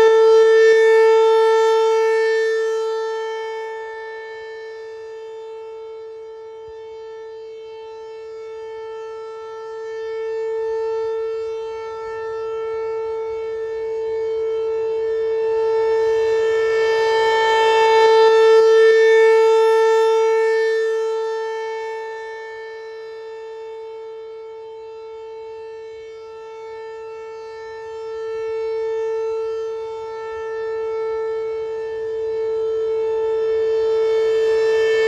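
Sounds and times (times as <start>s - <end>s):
steady warning siren tone: 0.0s - 35.0s.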